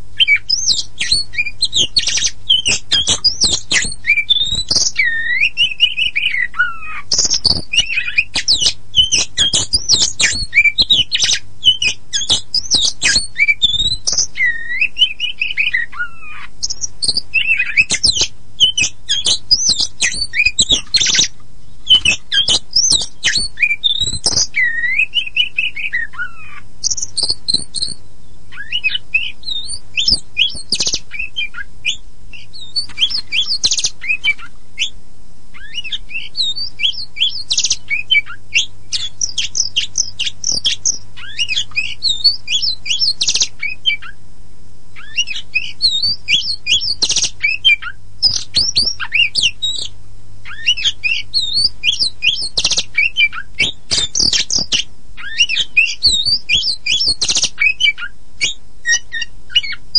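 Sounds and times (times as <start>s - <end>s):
faint steady hum: 0.0s - 59.9s
bird chirping and whistling: 0.2s - 44.2s, 45.0s - 59.9s.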